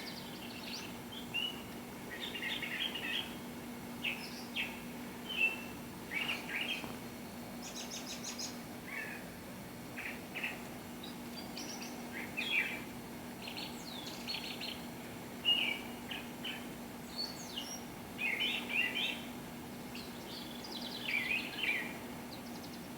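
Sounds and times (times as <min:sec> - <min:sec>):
songbirds chirping: 0:00.0 - 0:09.3, 0:10.0 - 0:22.9.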